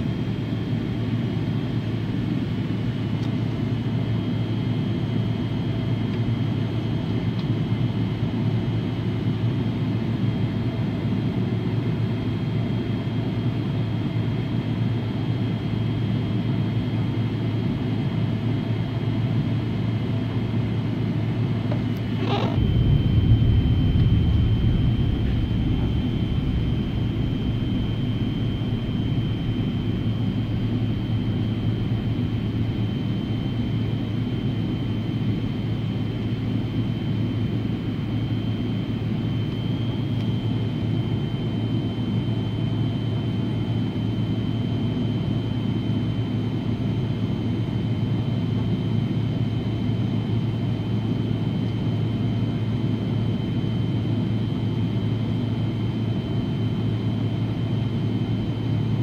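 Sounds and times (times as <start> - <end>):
jet engines rumbling and whining: 0.0 - 59.0.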